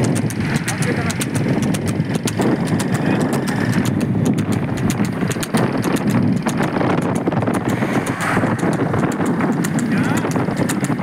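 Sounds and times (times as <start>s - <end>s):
hooves clip-clopping on asphalt: 0.0s - 11.0s
road and wind rumble: 0.0s - 11.0s.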